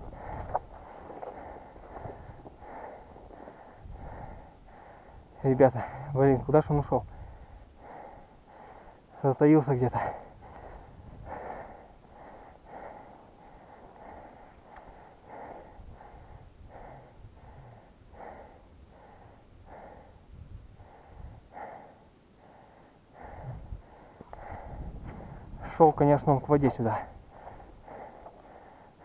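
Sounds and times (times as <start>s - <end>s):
man breathing hard: 0.0s - 29.0s.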